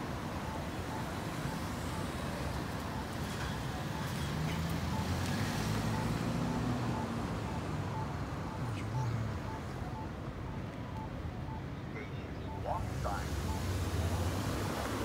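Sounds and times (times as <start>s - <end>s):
pedestrian button locator beeps: 0.0s - 15.0s
road traffic engine rumble: 0.0s - 15.0s.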